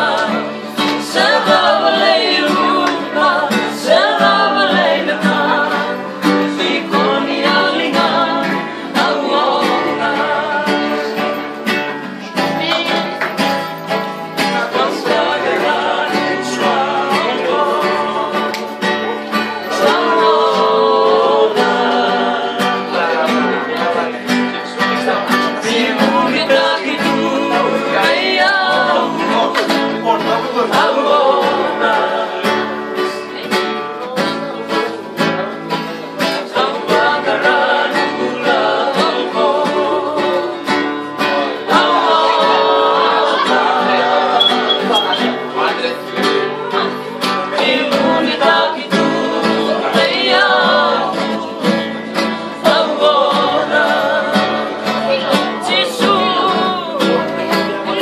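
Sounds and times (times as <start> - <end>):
acoustic guitars: 0.0 - 58.0
men singing: 0.0 - 58.0.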